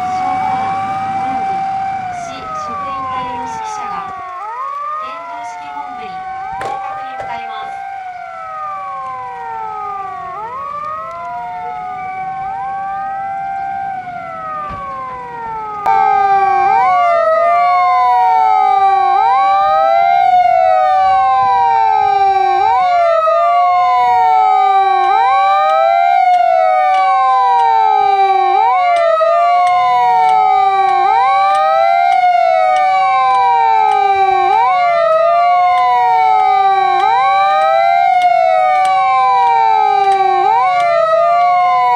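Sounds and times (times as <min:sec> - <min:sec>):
fire engine sirens: 0:00.0 - 0:41.9.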